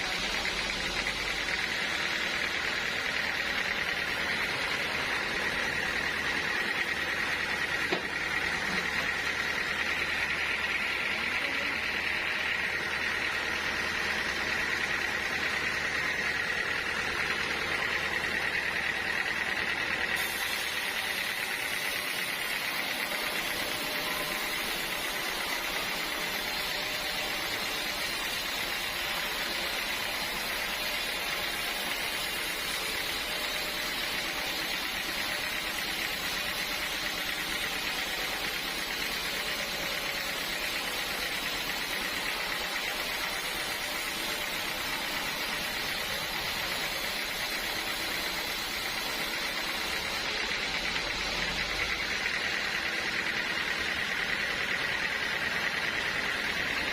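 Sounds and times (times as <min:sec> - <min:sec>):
sawmill machinery whining: 0:00.0 - 0:56.9.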